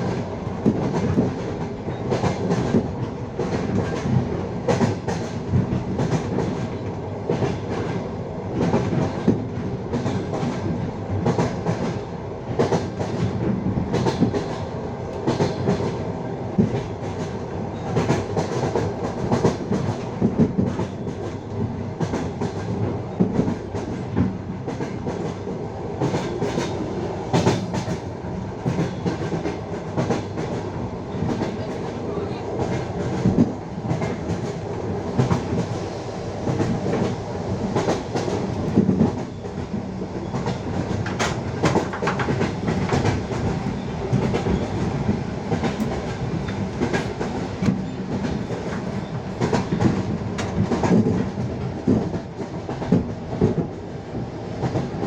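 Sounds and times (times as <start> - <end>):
steady train rumble: 0.0 - 55.0
train wheels clacking on rails: 0.0 - 55.0.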